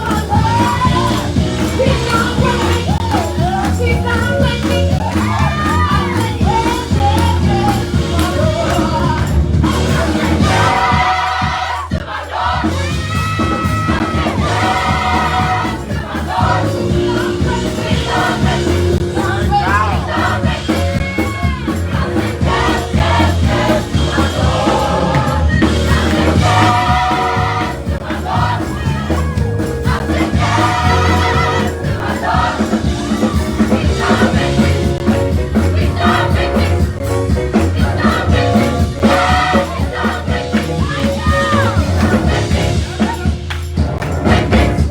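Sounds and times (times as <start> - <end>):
choir singing gospel music: 0.0 - 44.9
instrumental backing: 0.0 - 44.9.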